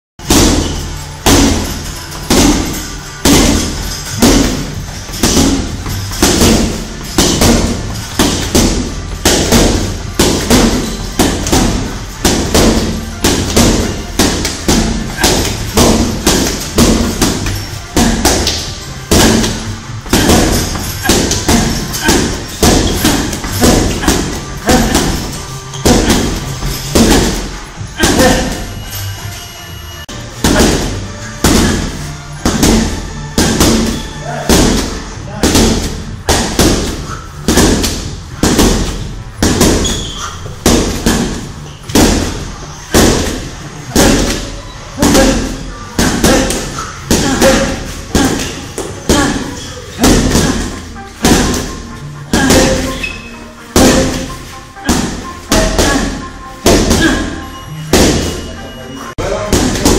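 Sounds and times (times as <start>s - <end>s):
medicine ball thuds: 0.2s - 29.1s, 30.0s - 58.5s, 59.2s - 59.9s
background music: 0.2s - 59.9s.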